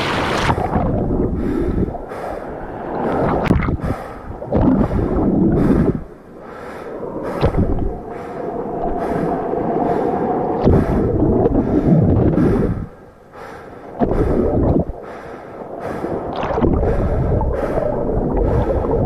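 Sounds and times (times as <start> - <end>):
wind buffeting microphone: 0.0 - 13.1, 14.0 - 19.0.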